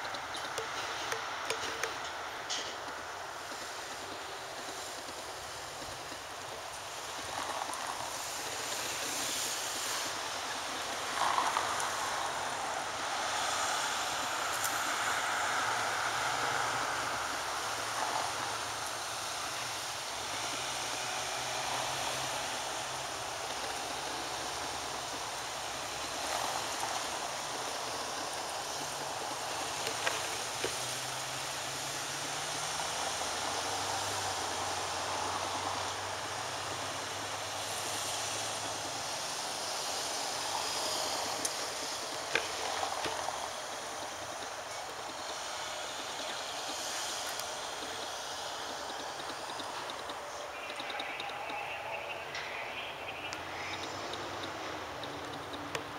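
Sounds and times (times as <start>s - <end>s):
car passing by: 0.0s - 55.9s
road traffic noise: 0.0s - 55.9s.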